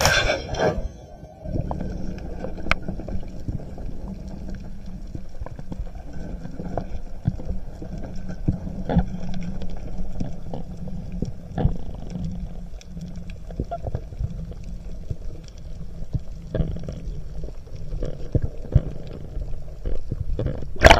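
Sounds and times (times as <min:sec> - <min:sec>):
underwater rumble of water: 0:00.0 - 0:20.9.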